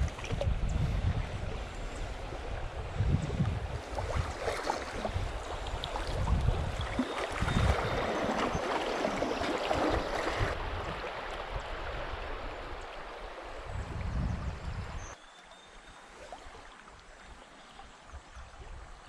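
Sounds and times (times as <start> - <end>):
river water rushing and gurgling: 0.0 - 19.0.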